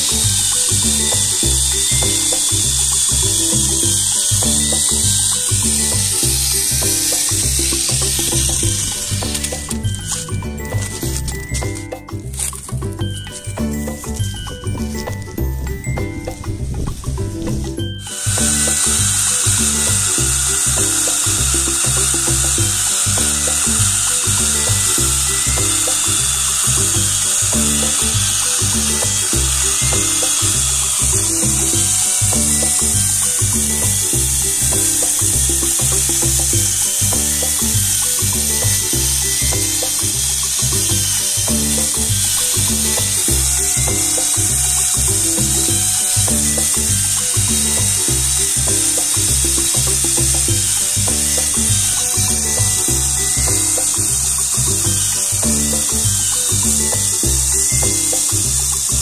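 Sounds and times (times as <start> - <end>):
music with bass beat: 0.0 - 59.0
steady high hiss: 0.0 - 59.0.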